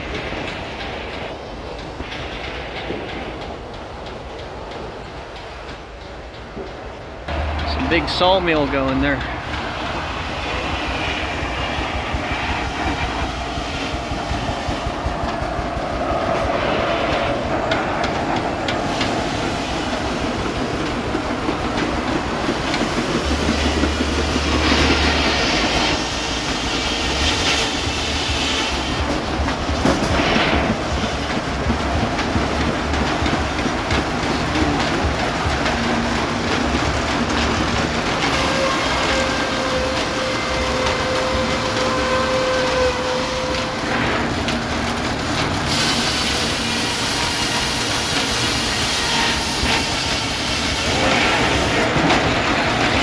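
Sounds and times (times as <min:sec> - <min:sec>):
sawmill mechanical clatter: 0:04.4 - 0:53.0.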